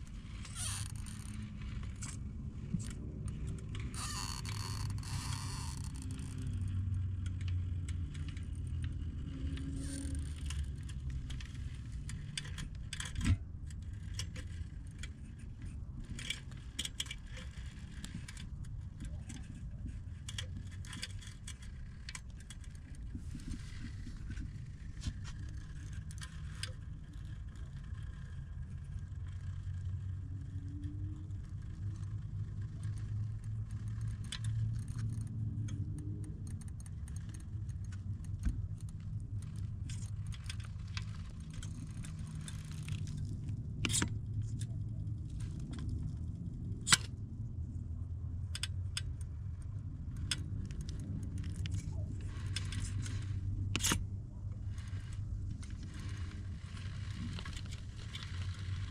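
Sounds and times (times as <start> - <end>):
electric motor and gears humming: 0.0 - 58.9.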